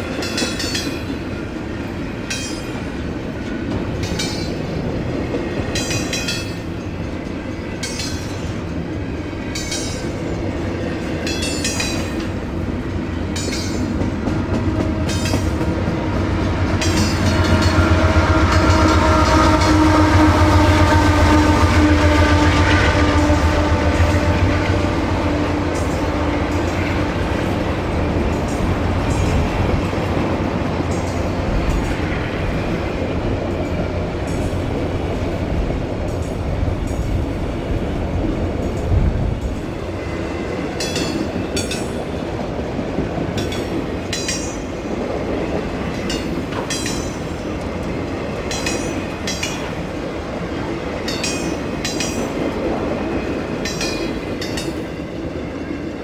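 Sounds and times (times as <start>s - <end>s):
train wheels clacking: 0.0s - 56.0s
diesel locomotive rumble: 1.9s - 54.6s.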